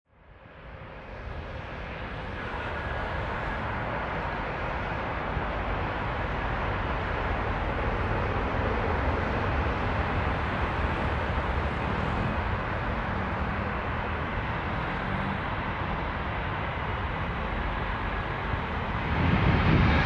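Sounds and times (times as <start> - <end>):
jet engines rumbling with whine: 0.1 - 20.0.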